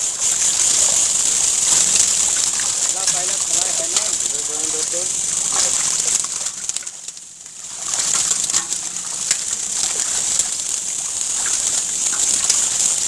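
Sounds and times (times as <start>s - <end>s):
steady high hiss: 0.0s - 13.0s
small fish splashing in water: 0.1s - 13.0s.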